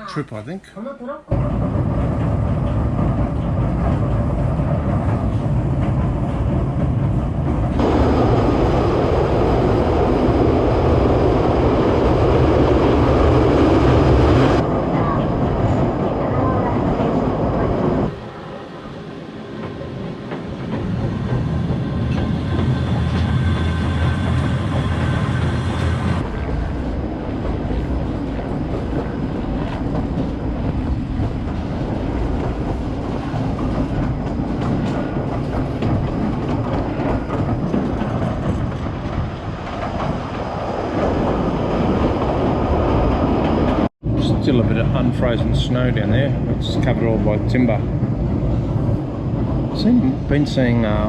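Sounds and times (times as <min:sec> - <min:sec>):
train wheels rumbling on rails: 0:01.3 - 0:51.0.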